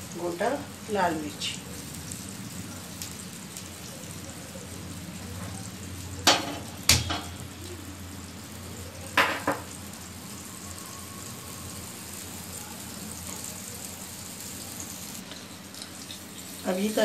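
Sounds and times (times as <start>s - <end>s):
butter and spices sizzling: 0.0s - 17.0s.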